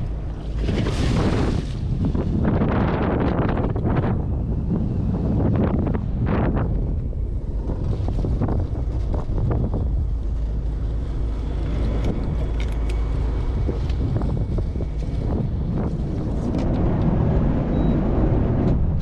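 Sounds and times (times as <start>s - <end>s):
boat engine rumbling: 0.0s - 19.0s
wind noise on microphone: 0.0s - 19.0s.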